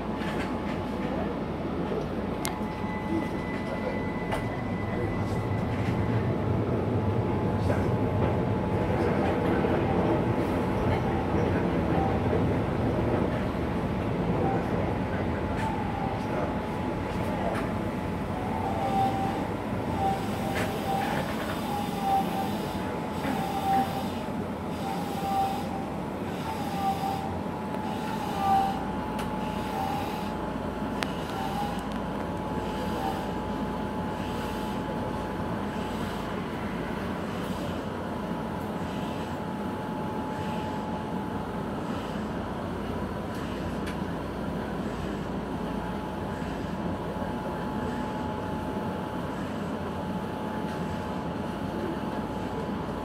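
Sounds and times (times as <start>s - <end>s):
train motor and running noise: 0.0s - 53.0s.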